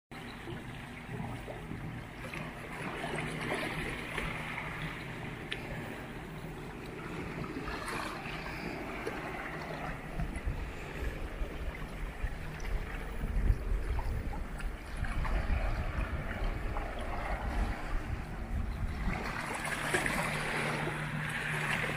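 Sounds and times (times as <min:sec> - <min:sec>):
wind rumble on microphone: 0:00.2 - 0:21.9
small waves lapping on rocks: 0:00.8 - 0:21.9.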